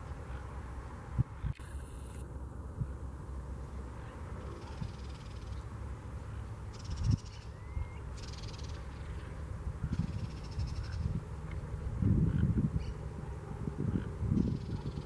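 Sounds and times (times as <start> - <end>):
wind rumbling on microphone: 0.0 - 1.7, 2.4 - 5.5, 6.7 - 15.0.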